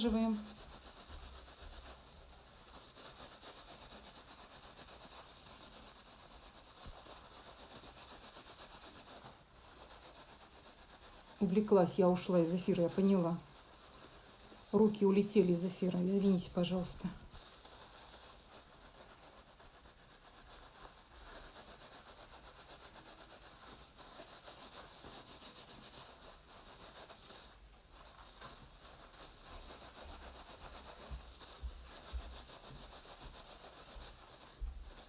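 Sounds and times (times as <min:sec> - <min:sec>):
hands rubbing wet wool: 0:00.0 - 0:35.0.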